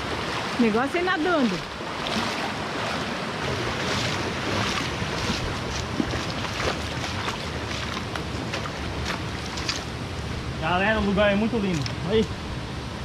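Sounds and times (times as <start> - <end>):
river and waterfalls rushing: 0.0 - 13.0.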